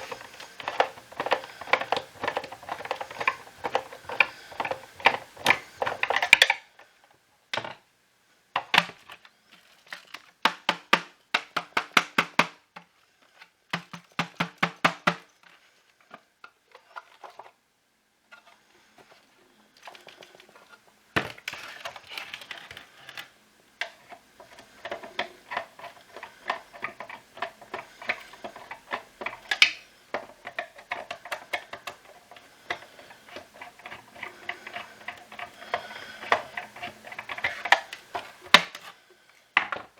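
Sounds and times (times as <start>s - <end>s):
plastic parts clicking and rattling: 0.0s - 7.9s, 8.6s - 17.6s, 18.3s - 39.9s.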